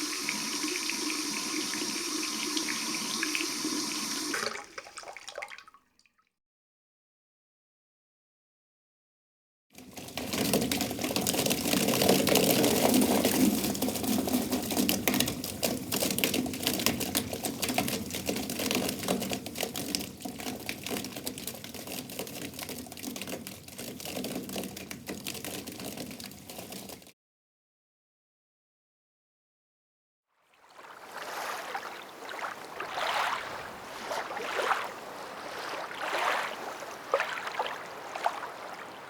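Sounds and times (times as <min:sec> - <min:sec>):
crackle of small water splashes: 0:00.0 - 0:06.3, 0:09.8 - 0:27.1, 0:30.6 - 0:39.0.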